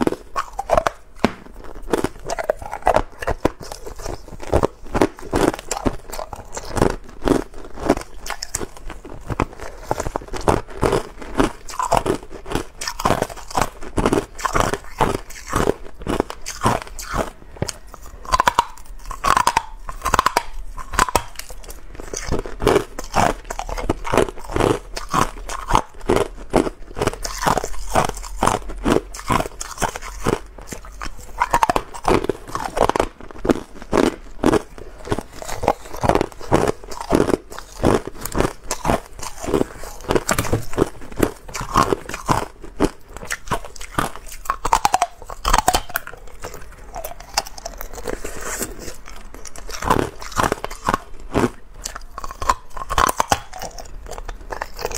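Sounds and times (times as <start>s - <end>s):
ice cubes crunching when chewed: 0.0s - 54.9s.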